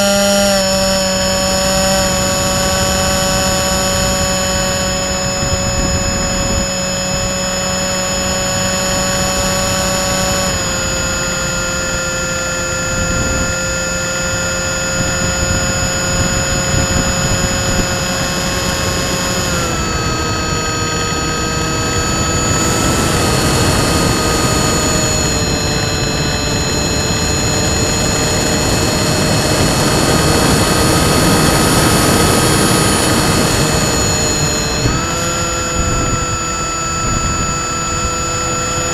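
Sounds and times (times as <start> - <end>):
electric motor propeller whine: 0.0 - 38.9
wind rush: 1.5 - 38.9.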